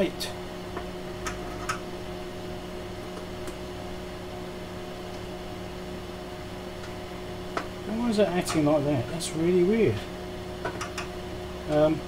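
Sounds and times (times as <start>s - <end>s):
electrical hum and fan noise: 0.0s - 12.0s.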